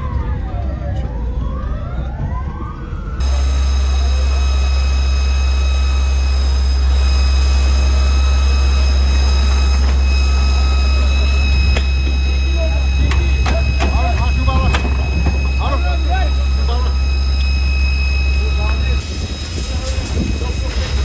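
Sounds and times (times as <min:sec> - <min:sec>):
heavy machinery humming: 0:03.0 - 0:21.0
high whine: 0:03.2 - 0:21.0.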